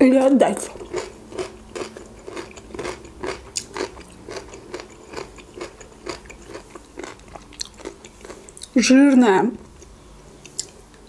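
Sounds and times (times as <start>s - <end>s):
chewing sweet corn: 0.6s - 8.8s, 9.6s - 10.9s.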